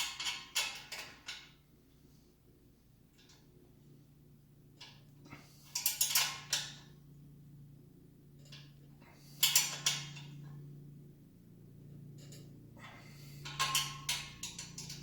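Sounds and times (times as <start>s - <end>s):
low steady hum: 1.5s - 15.0s.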